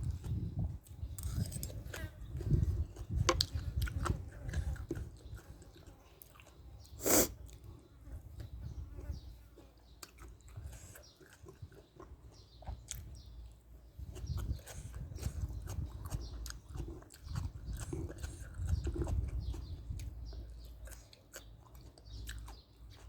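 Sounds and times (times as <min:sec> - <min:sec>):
person chewing food: 0:00.0 - 0:07.8, 0:08.4 - 0:23.0.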